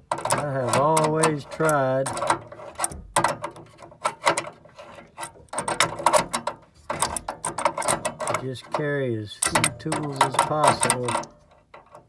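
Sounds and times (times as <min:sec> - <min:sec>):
metal wrench clicks and scrapes: 0:00.1 - 0:12.0.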